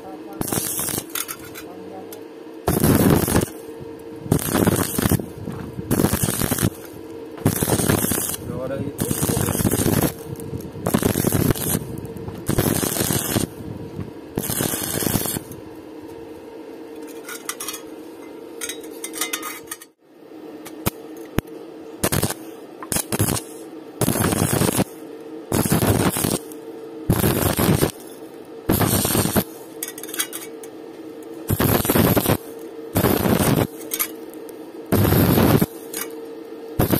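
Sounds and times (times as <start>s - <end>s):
welding arc crackling and hissing: 0.0s - 15.8s, 20.7s - 30.0s, 31.3s - 36.9s
steady hum: 0.0s - 36.9s.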